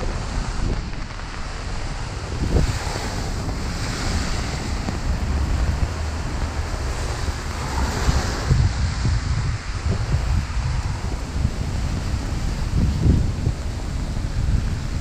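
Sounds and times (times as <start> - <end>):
rain on a wet street: 0.0 - 15.0
wind buffeting microphone: 0.0 - 15.0.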